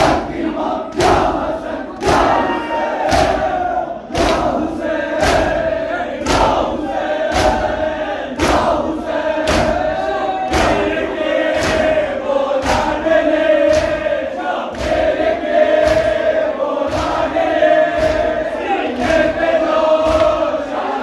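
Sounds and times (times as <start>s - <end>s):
chest beating slaps: 0.0s - 14.1s, 14.7s - 20.6s
men chanting in unison: 0.0s - 21.0s.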